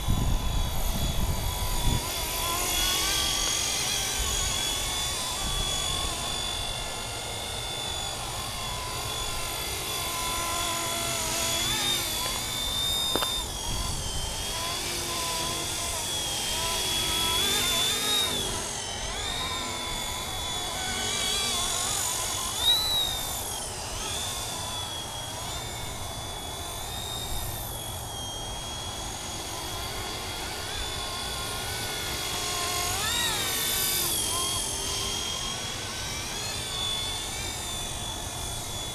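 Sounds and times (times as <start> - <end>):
low rotor rumble: 0.0 - 38.9
model helicopter motor whine: 0.0 - 38.9.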